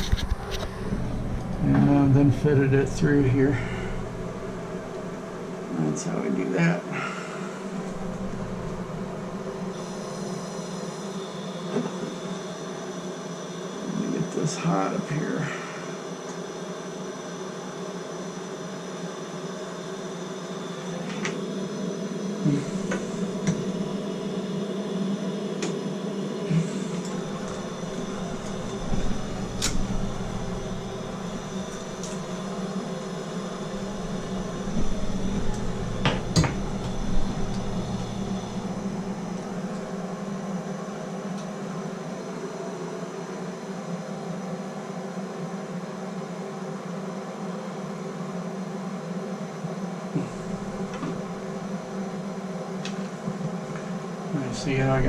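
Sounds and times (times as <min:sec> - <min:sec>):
torch flame burning: 0:00.0 - 0:17.4, 0:18.1 - 0:42.6, 0:50.1 - 0:55.0.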